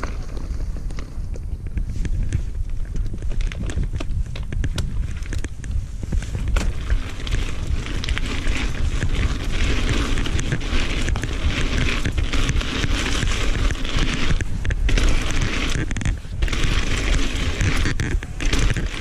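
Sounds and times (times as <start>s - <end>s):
bike tyres rumbling on gravel: 0.0s - 19.0s
stones ticking and bike rattling: 0.0s - 19.0s
wind on microphone: 0.0s - 19.0s.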